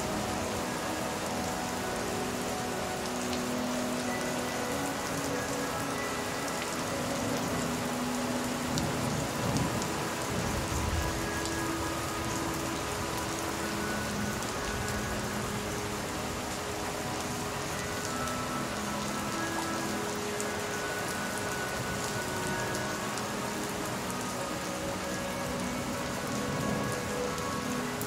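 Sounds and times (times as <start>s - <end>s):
soft sustained music notes: 0.0s - 28.0s
steady rain falling: 0.0s - 28.0s.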